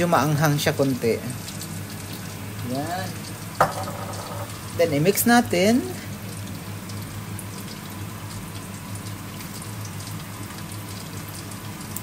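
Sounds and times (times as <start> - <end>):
sauce sizzling and popping: 0.0 - 12.0.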